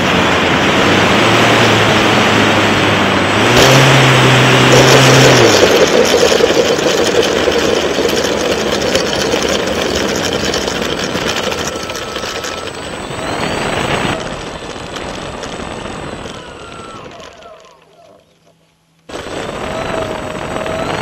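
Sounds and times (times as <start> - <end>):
model plane rolling on asphalt: 0.0 - 21.0.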